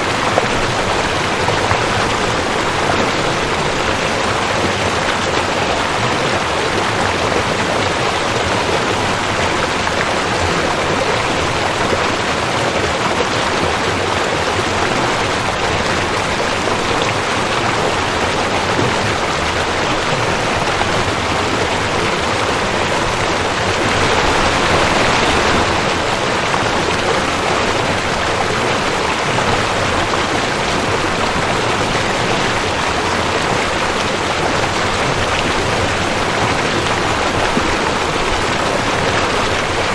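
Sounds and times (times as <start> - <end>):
water running over rocks: 0.0 - 39.9.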